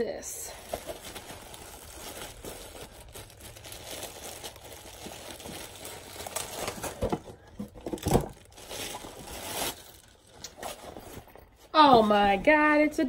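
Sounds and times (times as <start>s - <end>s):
plastic packaging crinkling: 0.4s - 11.4s.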